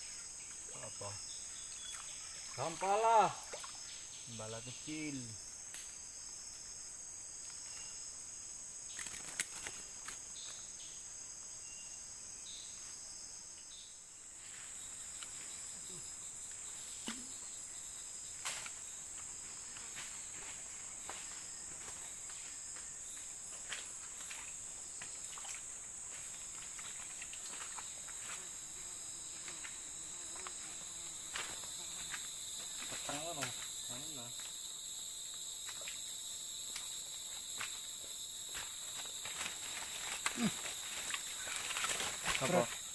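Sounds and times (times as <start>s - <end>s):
insect pulsing call: 0.0s - 6.8s, 7.5s - 42.9s
insects buzzing chorus: 0.0s - 42.9s.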